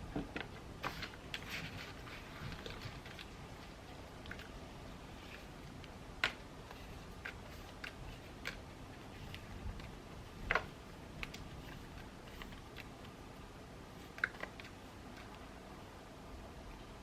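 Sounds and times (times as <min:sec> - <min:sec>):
faint rain hiss: 0:00.0 - 0:17.0.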